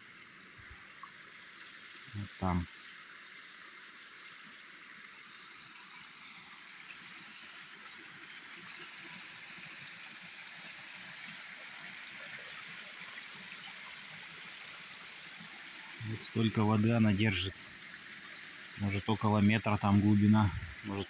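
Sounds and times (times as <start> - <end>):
stream water spilling over dam: 0.0 - 21.0.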